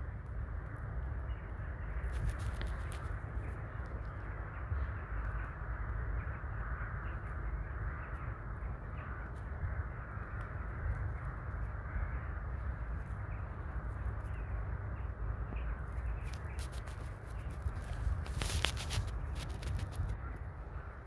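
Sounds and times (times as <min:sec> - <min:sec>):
wind rumble: 0:00.0 - 0:21.0.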